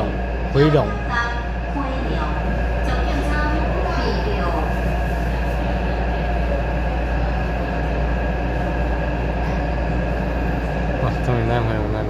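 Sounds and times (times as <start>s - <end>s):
train motor tones: 0.0s - 12.0s
train wheels rumbling on rail: 0.0s - 12.0s.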